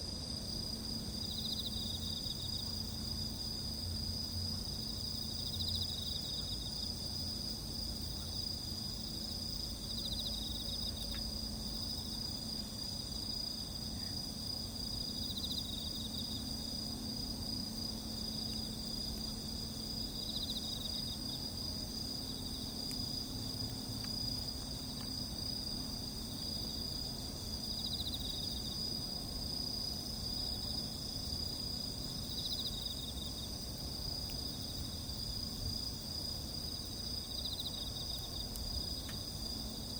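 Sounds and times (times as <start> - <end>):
crickets and insects droning: 0.0 - 39.9.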